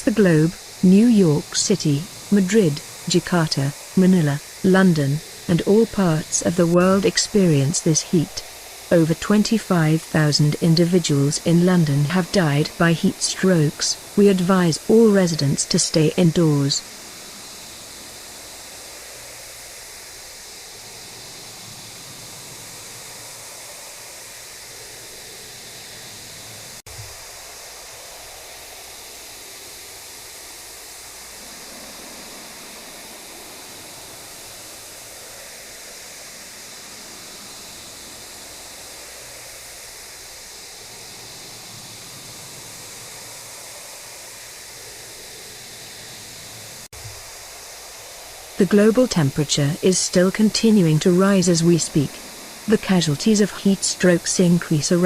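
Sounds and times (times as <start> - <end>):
background static hiss: 0.0 - 55.0.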